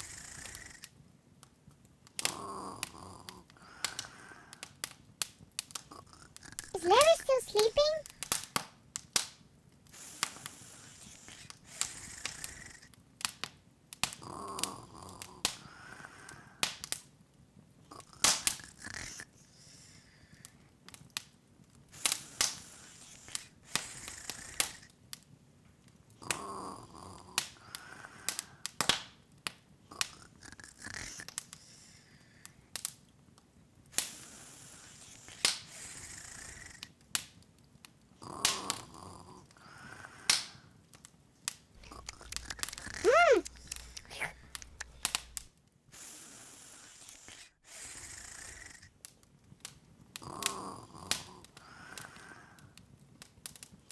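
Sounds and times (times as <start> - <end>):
open fire crackling: 0.0 - 7.4, 8.0 - 19.2, 19.8 - 39.6, 40.2 - 45.7, 49.0 - 53.9.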